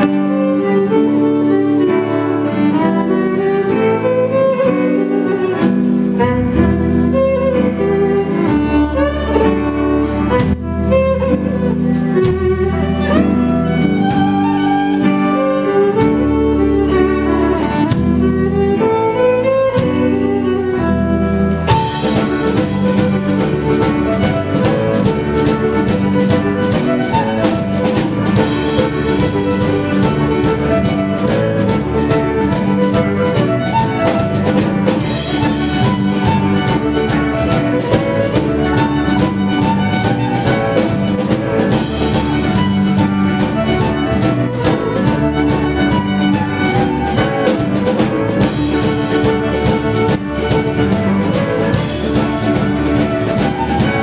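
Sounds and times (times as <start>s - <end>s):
drum kit and band playing: 0.0s - 54.0s
fiddle melody: 0.0s - 54.0s.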